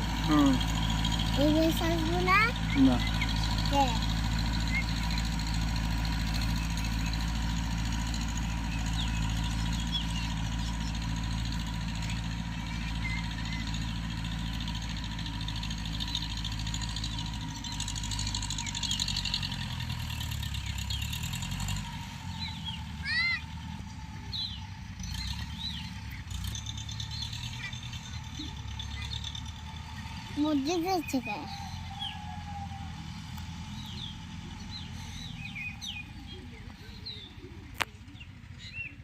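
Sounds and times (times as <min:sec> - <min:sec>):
birds chirping: 0:00.0 - 0:39.0
tractor engine running: 0:00.0 - 0:39.0.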